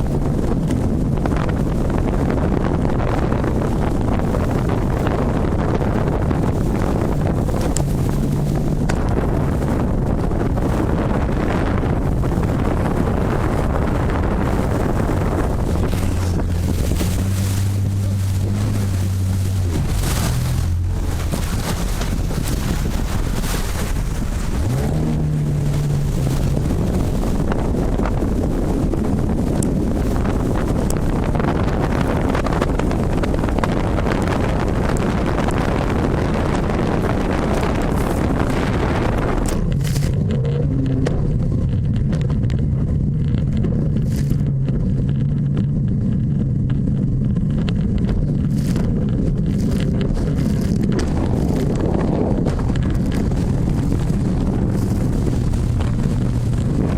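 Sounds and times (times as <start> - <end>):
low hum rising in pitch: 0.0 - 29.2, 37.0 - 56.9
boat engine running: 0.0 - 56.9
wind buffeting microphone: 0.0 - 56.9.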